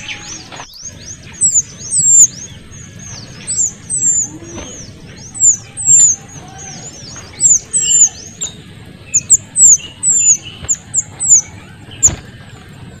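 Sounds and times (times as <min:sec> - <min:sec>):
soft low bird chirps: 0:00.0 - 0:12.8
birds high descending calls: 0:00.0 - 0:13.0.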